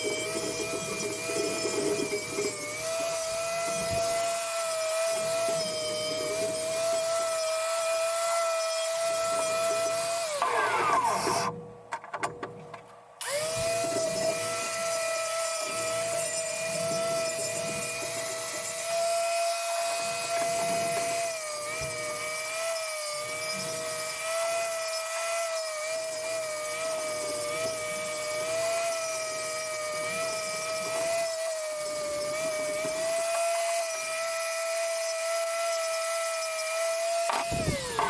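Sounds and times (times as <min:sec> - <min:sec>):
power tool whining: 0:00.0 - 0:11.6, 0:13.2 - 0:38.0.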